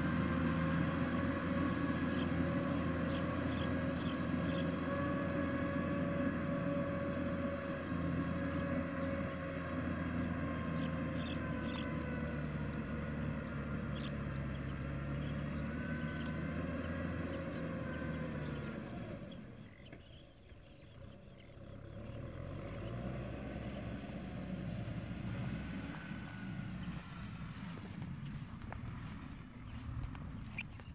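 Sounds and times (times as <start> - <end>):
distant tractor engine running: 0.0 - 30.9.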